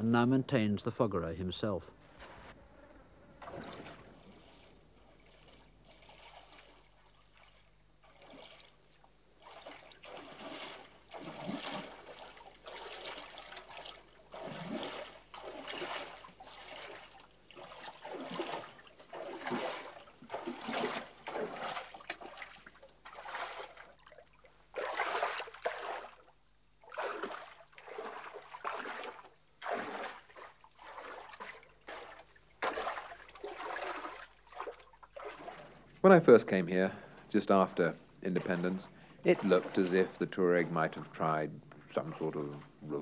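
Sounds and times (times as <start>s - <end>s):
water splashing and sloshing: 2.0s - 2.6s, 3.3s - 43.0s.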